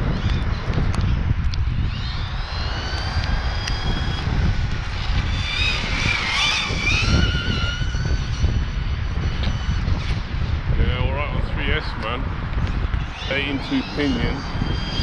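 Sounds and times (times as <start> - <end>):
electric motor high whine: 0.0 - 11.9, 12.6 - 15.0
wind buffeting microphone: 0.0 - 15.0.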